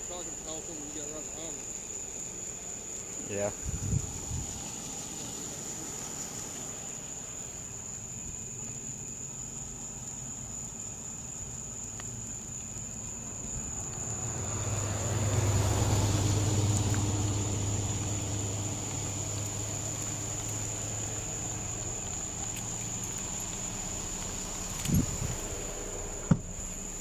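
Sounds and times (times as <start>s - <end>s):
road noise: 0.0s - 27.0s
vehicle engine hum: 0.0s - 27.0s.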